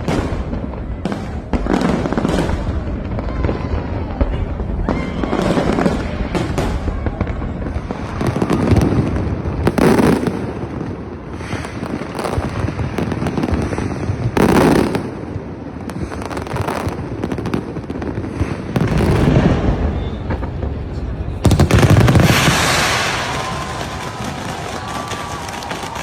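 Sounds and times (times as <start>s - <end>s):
booming firework bursts: 0.0s - 26.0s
fireworks crackling: 0.0s - 26.0s.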